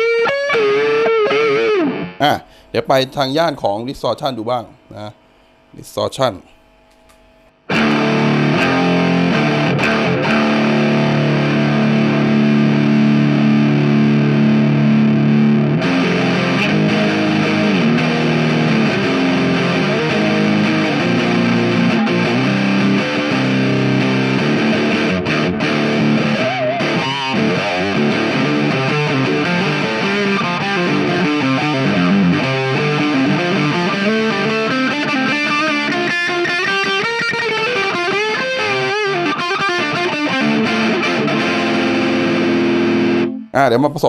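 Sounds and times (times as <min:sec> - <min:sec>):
distorted electric guitar chords: 0:00.0 - 0:05.8, 0:06.5 - 0:43.6.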